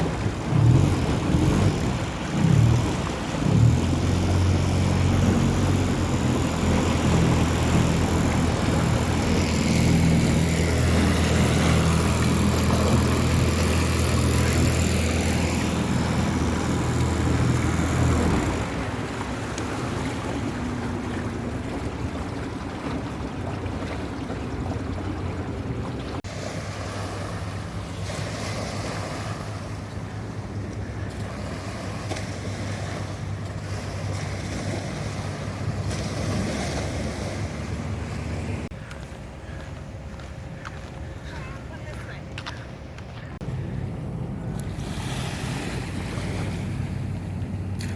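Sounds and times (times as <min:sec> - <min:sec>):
rushing water: 0:00.0 - 0:40.2, 0:43.4 - 0:47.9
outboard motor running: 0:00.0 - 0:47.9
wind: 0:00.0 - 0:47.9.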